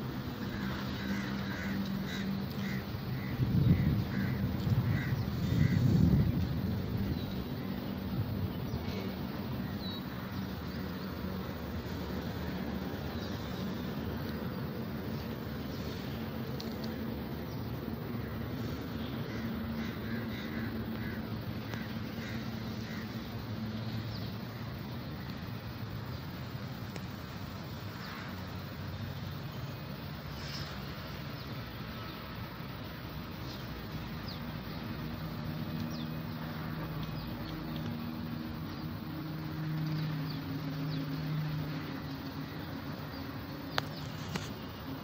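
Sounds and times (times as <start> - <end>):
birds calling: 0.0 - 45.0
low rumble of traffic: 0.0 - 45.0.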